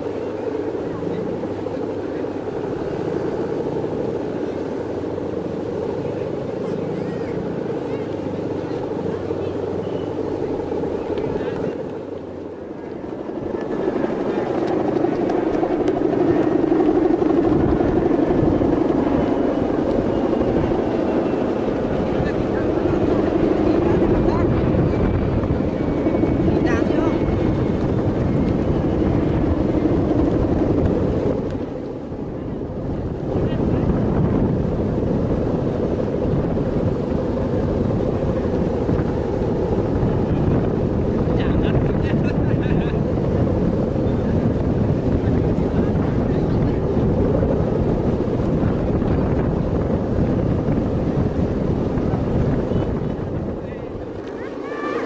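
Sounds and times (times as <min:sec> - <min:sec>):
kite bowstring hummer droning: 0:00.0 - 0:55.0
strong wind rumble: 0:00.0 - 0:55.0.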